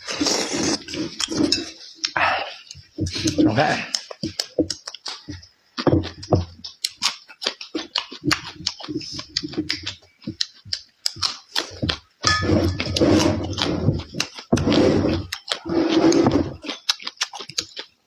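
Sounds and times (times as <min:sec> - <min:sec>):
person chewing noisily: 0:00.0 - 0:18.0.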